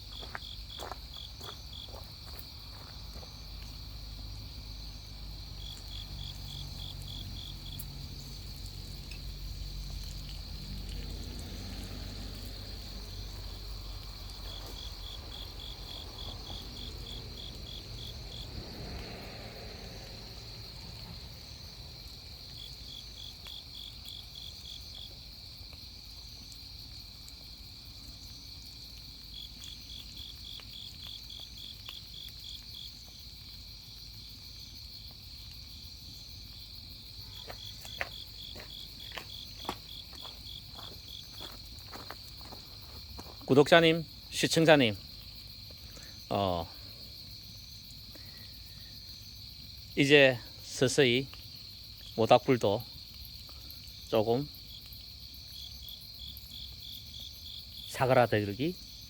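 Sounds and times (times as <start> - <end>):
cricket pulsed trill: 0.0 - 59.0
crickets chirping drone: 0.0 - 59.0.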